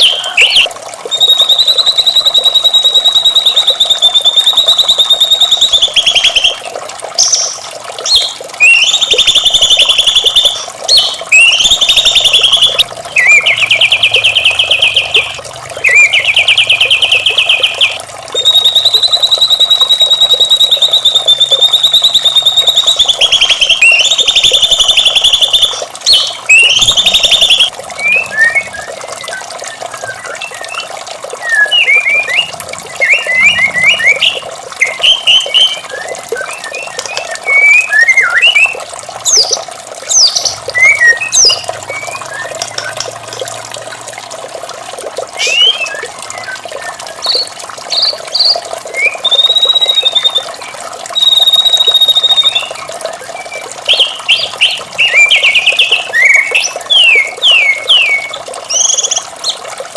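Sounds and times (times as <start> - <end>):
bird singing whistled phrases: 0.0 - 43.1, 45.4 - 59.2
running water: 0.0 - 59.9.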